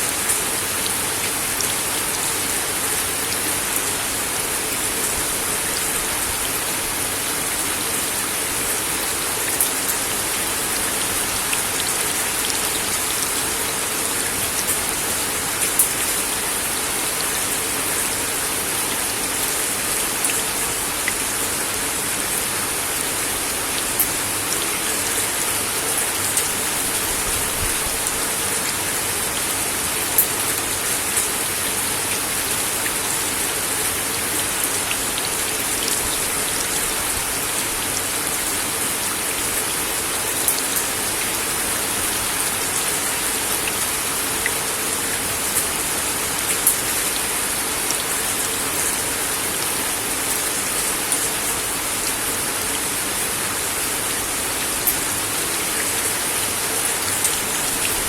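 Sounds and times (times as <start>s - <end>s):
rain on a wooden deck: 0.0s - 58.0s.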